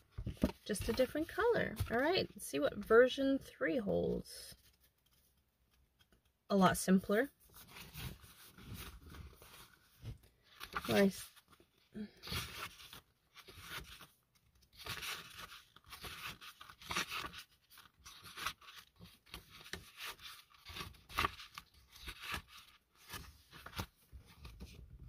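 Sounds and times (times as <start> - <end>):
book pages turning: 0.0 - 2.2, 4.5 - 6.3, 7.4 - 25.0.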